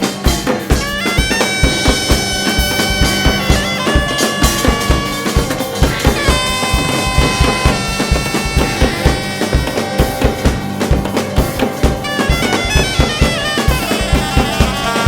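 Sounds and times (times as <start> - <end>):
drums keeping a beat: 0.0 - 15.0
reedy wind instrument: 0.0 - 15.0.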